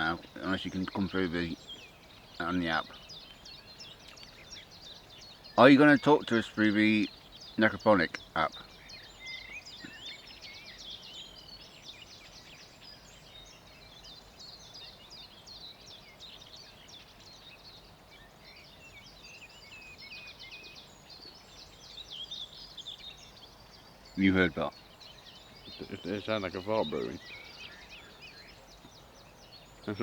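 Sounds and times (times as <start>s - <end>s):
birds singing and chirping: 0.0s - 30.0s
faint outdoor background noise: 0.0s - 30.0s.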